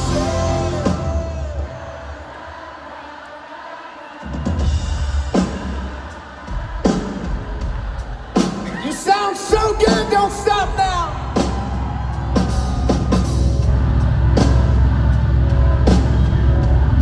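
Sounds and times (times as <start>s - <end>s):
live rock band: 0.0s - 2.2s, 4.2s - 17.0s.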